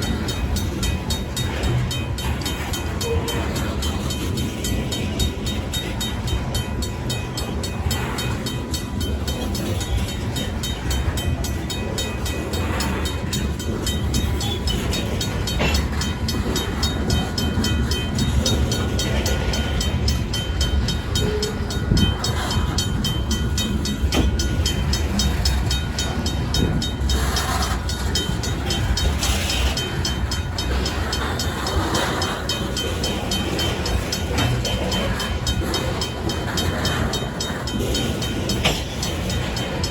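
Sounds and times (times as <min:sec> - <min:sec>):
crossing bell ringing: 0:00.0 - 0:39.9
freight cars rumbling: 0:00.0 - 0:39.9.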